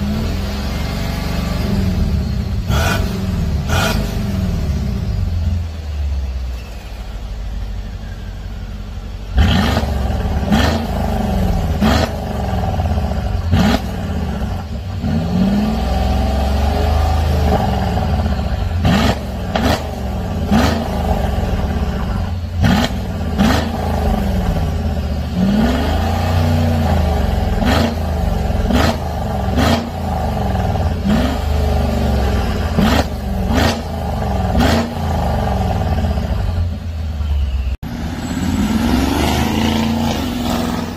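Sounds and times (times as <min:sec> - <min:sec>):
car exhaust idling and revving: 0:00.0 - 0:40.9.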